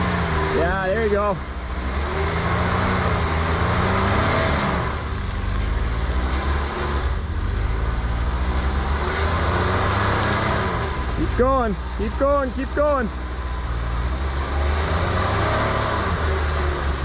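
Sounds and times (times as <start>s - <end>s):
engine revving: 0.0s - 17.0s
vehicle churning through mud: 0.0s - 17.0s.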